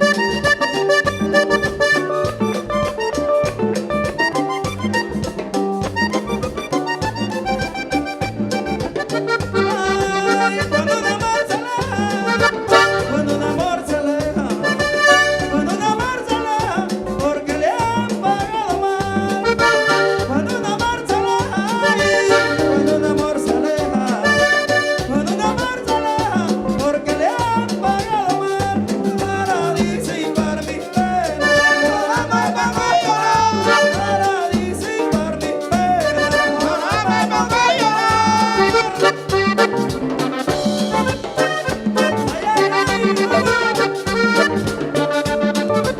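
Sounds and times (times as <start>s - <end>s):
accordion melody: 0.0s - 45.9s
bass and percussion beat: 0.0s - 45.9s.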